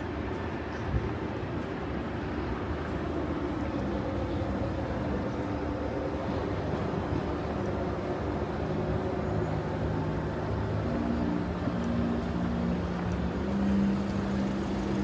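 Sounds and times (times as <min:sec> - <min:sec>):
low rumble of city vehicles: 0:00.0 - 0:15.0.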